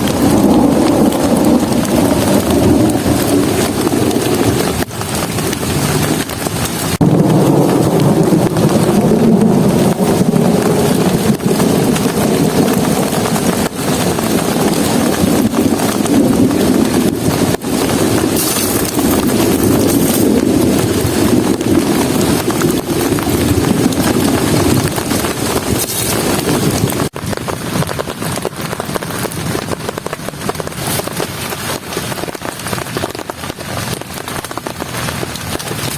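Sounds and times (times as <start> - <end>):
heavy rain on shelter: 0.0 - 35.9.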